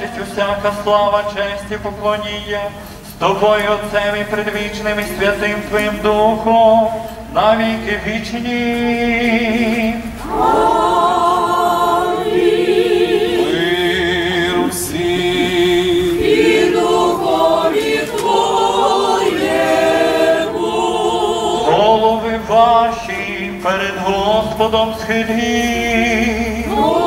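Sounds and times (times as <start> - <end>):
choir singing a cappella: 4.2 - 27.0.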